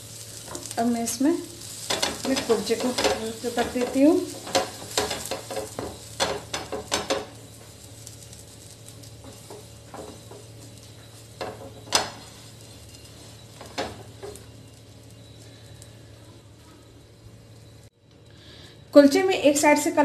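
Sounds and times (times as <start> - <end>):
bread frying in butter: 0.0 - 17.9
crackles and pops: 0.0 - 18.2.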